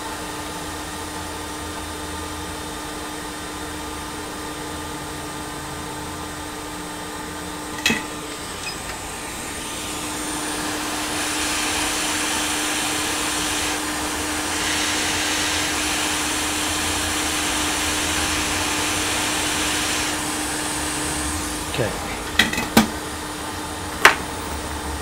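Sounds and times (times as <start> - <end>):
steady hum: 0.0 - 25.0
hot air station airflow hiss: 4.1 - 25.0.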